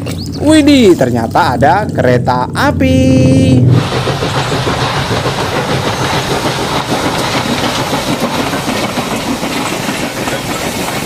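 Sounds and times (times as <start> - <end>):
steam train rumbling past: 0.0 - 11.0
wheels clattering over rails: 0.0 - 11.0.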